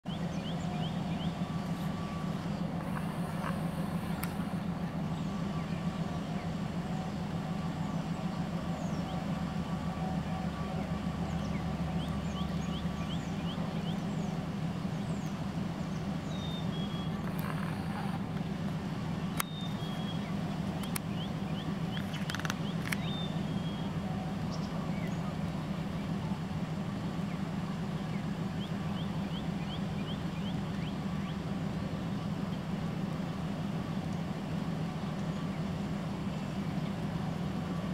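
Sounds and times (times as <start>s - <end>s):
low mechanical hum: 0.0s - 37.9s.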